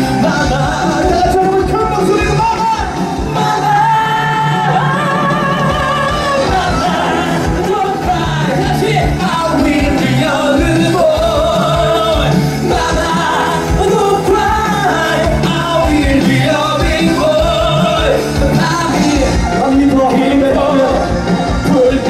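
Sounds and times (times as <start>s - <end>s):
loud musical accompaniment: 0.0s - 22.0s
men singing into microphones: 0.0s - 22.0s.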